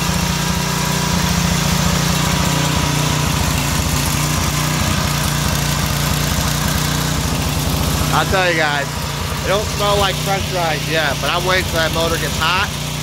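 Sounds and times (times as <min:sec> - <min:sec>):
pressure washer engine running: 0:00.0 - 0:13.0.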